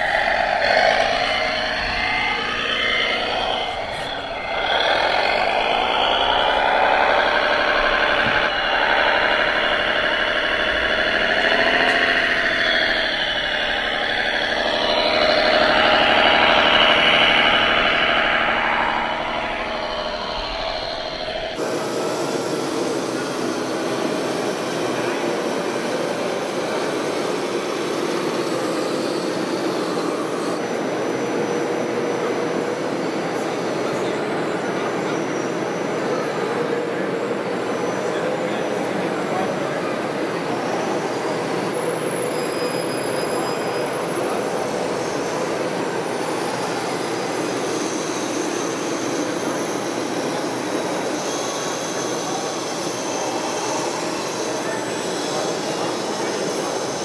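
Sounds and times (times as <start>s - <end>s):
model tractor motor whine: 0.0s - 57.0s
steady rushing noise: 0.0s - 57.0s.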